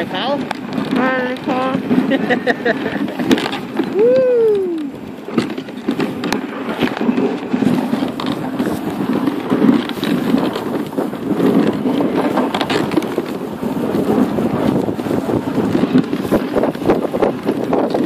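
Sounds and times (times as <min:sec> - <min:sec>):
sharp crackles: 0:00.0 - 0:18.0
sled runners scraping over snow: 0:00.0 - 0:18.0.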